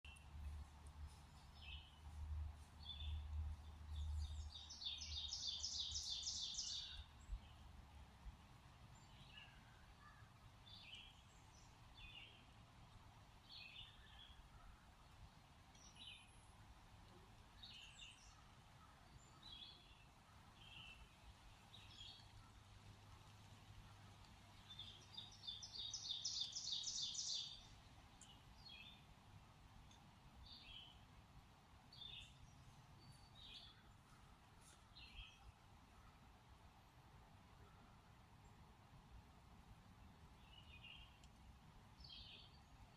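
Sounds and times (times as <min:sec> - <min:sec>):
songbird singing: 0:00.0 - 0:42.9.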